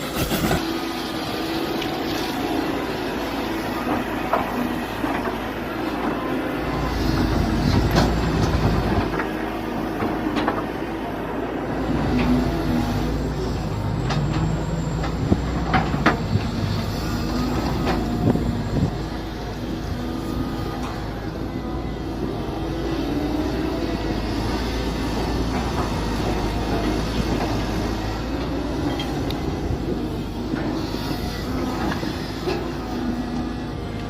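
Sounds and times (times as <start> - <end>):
excavator engine rumbling: 0.0 - 34.0.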